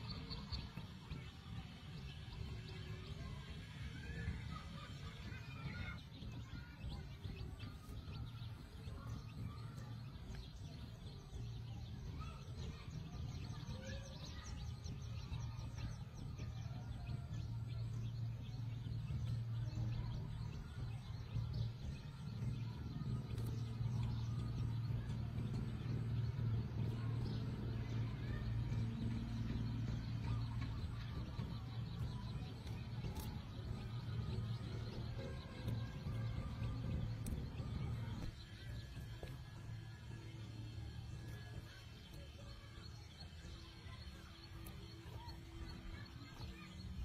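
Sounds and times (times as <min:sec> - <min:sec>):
small birds chirping and trilling: 0:00.0 - 0:47.0
steady low hum: 0:00.0 - 0:47.0.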